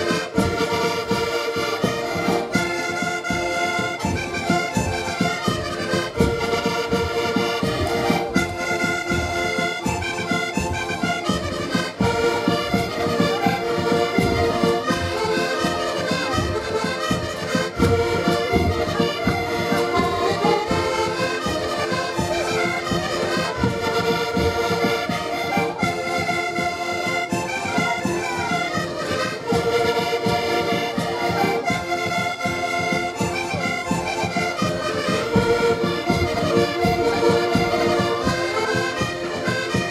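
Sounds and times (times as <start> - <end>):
concertinas playing a tune: 0.0 - 39.9.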